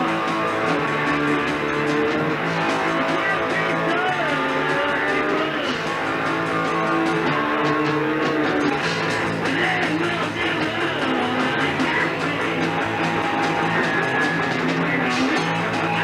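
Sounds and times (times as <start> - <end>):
bass guitar: 0.0 - 16.0
electric guitars: 0.0 - 16.0.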